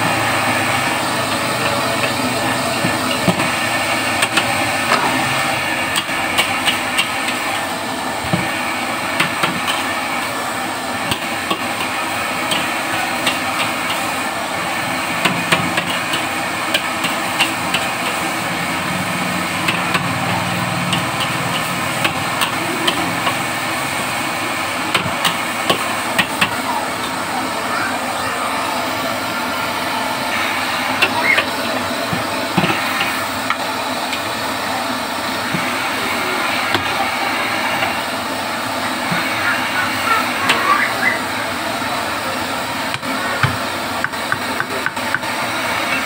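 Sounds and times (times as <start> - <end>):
frying hiss: 0.0 - 46.0.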